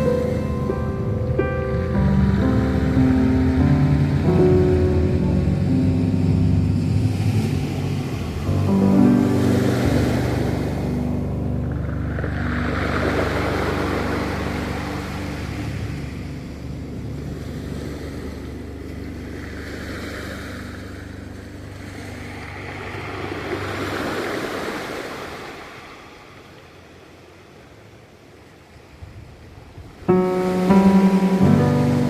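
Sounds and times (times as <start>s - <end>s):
low music notes: 0.0s - 24.0s, 30.1s - 32.0s
ocean waves washing ashore: 0.0s - 32.0s.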